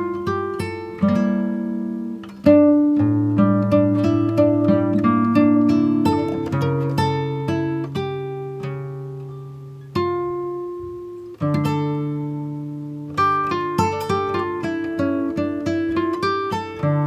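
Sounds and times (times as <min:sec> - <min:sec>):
plucked instrumental music: 0:00.0 - 0:17.0.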